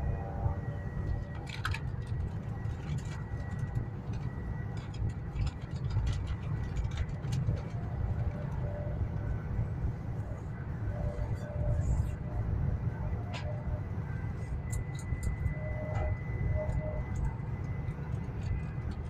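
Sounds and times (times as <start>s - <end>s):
train interior low rumble: 0.0s - 19.0s.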